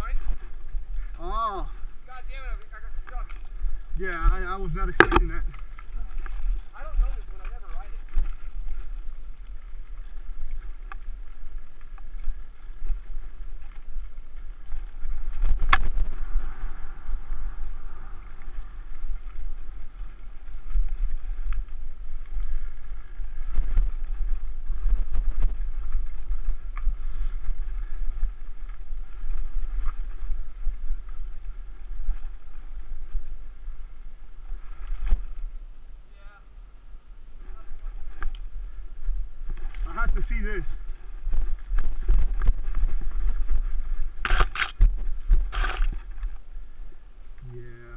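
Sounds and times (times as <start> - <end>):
wind and tyre rumble: 0.0 - 47.9.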